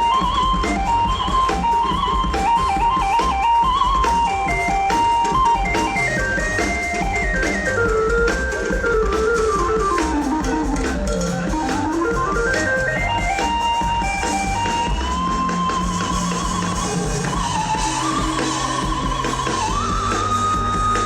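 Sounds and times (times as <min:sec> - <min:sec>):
keyboard lead line: 0:00.0 - 0:21.0
live gospel band music: 0:00.0 - 0:21.0
steady drum beat: 0:00.0 - 0:21.0.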